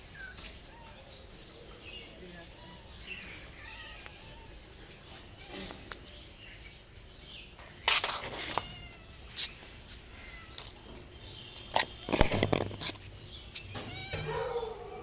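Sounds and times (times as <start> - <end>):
cats meowing softly: 0.0 - 6.5, 7.9 - 12.5, 13.5 - 15.0.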